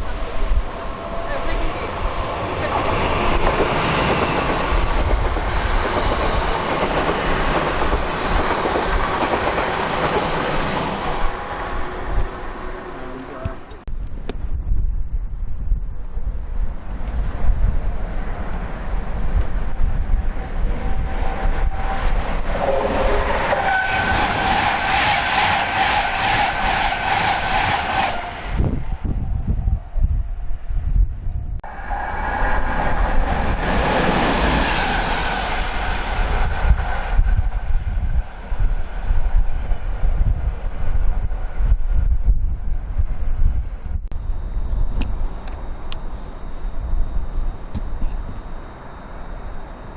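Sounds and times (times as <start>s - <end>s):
train passing: 0.0s - 13.9s, 16.0s - 49.9s
wind buffeting microphone: 0.0s - 49.9s.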